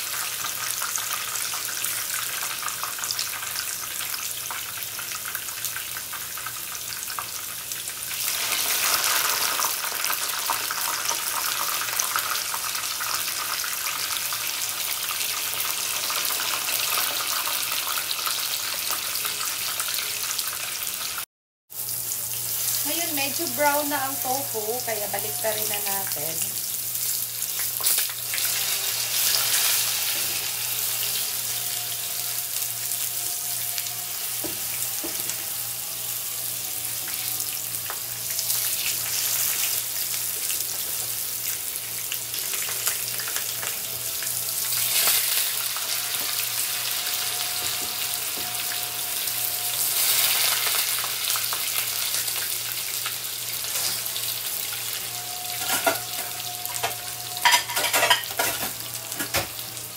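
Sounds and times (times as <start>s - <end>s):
tofu sizzling in hot oil: 0.0s - 21.2s, 21.8s - 59.9s.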